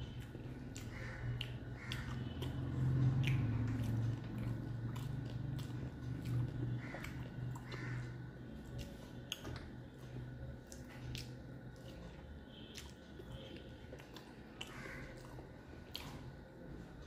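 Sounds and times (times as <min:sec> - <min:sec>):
fingers squishing food: 0:00.0 - 0:16.7
low steady hum: 0:00.0 - 0:17.0
mouth chewing: 0:00.0 - 0:17.0.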